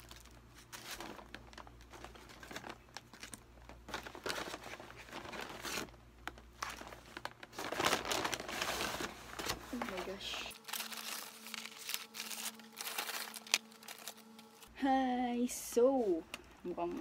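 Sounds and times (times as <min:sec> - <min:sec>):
paper bag and wrappers rustling: 0:00.0 - 0:14.7.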